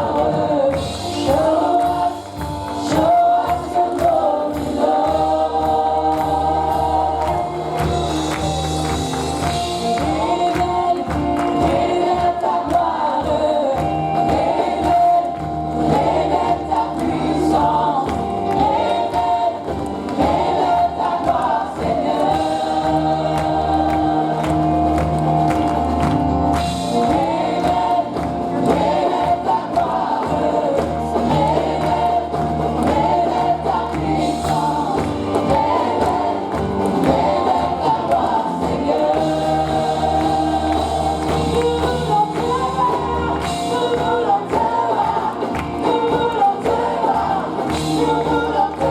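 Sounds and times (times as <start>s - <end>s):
band with bass and drums: 0.0s - 48.9s
congregation and choir singing: 0.0s - 48.9s.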